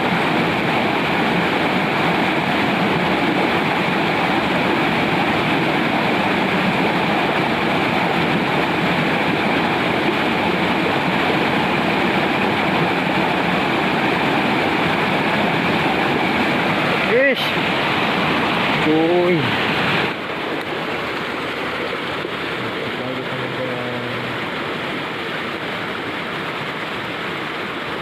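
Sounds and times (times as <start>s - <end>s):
water rushing in a ditch: 0.0s - 28.0s.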